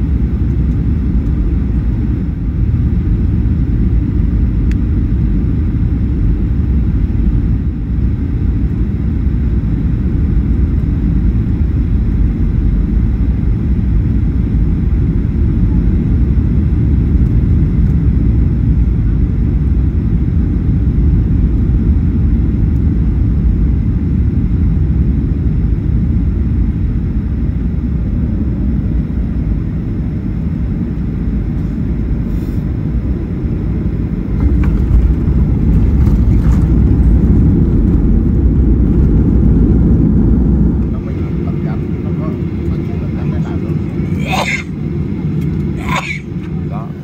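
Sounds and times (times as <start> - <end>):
airplane cabin rumble: 0.0 - 47.0.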